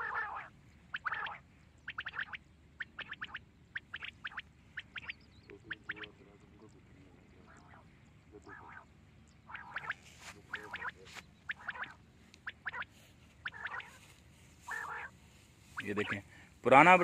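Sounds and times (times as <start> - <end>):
quail calling: 0.0 - 16.5.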